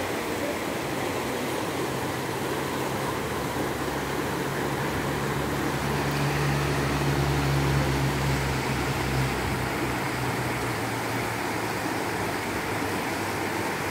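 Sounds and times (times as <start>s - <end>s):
river rushing over rocks: 0.0s - 13.9s.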